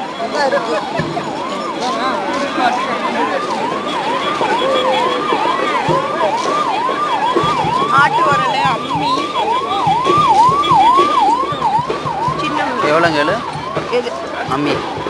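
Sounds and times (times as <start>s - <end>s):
crowd chatter: 0.0s - 15.0s
electronic siren warble: 0.0s - 15.0s.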